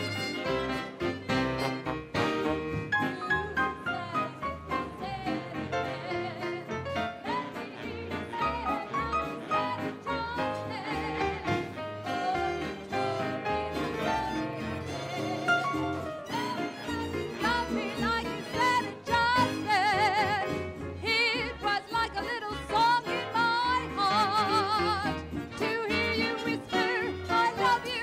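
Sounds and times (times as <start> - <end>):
big band playing swing: 0.0 - 28.0.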